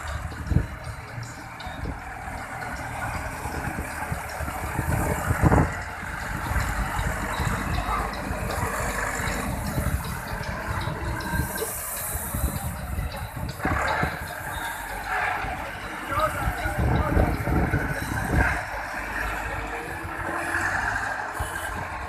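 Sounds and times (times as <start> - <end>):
tractor engine knocking rumble: 0.0 - 22.0.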